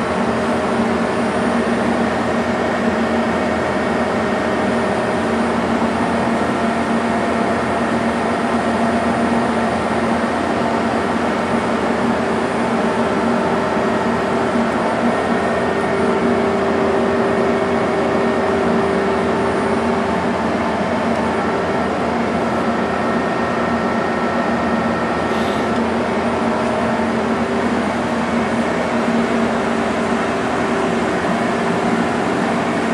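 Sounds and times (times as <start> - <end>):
lathe mechanical whir: 0.0 - 32.9.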